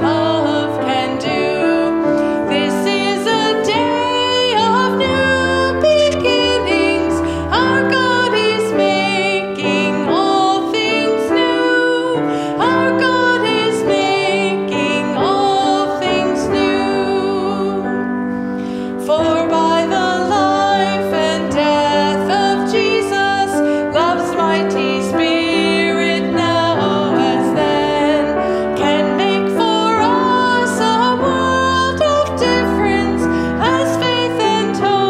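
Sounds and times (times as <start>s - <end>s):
woman singing with vibrato: 0.0s - 18.0s, 19.0s - 35.0s.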